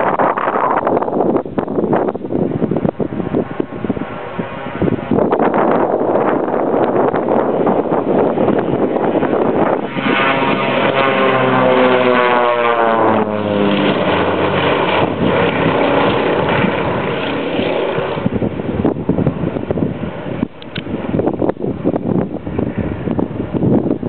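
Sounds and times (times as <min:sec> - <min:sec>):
propeller plane passing: 0:00.0 - 0:24.0.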